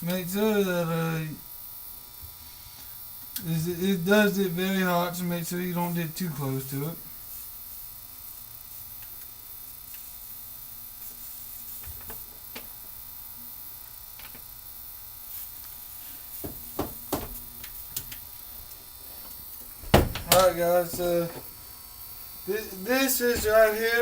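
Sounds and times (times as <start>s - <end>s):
soldering gun humming: 0.0s - 24.0s.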